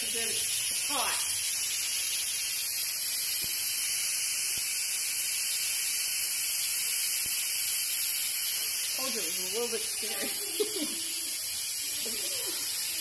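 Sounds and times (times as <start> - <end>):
steam valve hissing: 0.0 - 13.0.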